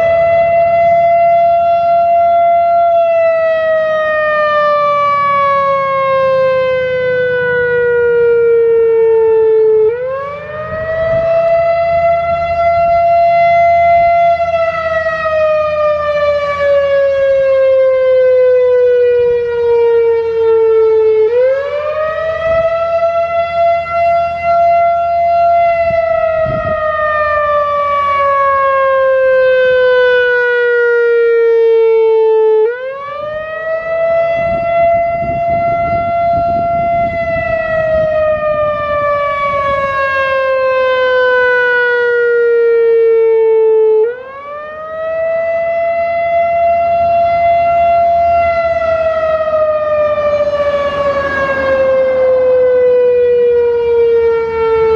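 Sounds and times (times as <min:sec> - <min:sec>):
wailing electronic warning siren: 0:00.0 - 0:54.9.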